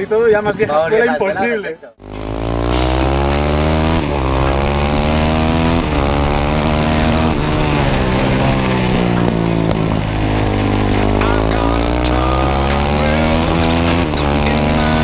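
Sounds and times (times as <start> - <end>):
motorcycle engine revving: 2.0 - 15.0.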